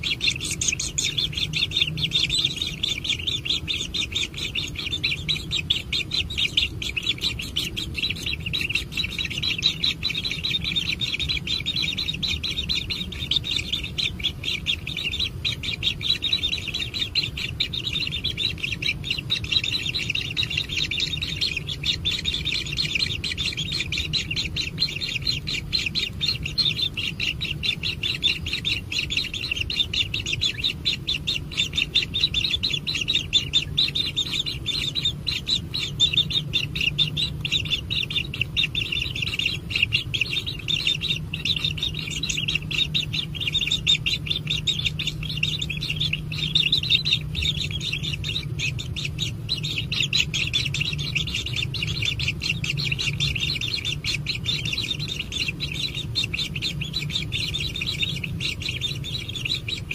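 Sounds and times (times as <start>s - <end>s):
low steady hum: 0.0s - 59.9s
nestlings chirping: 0.0s - 59.9s.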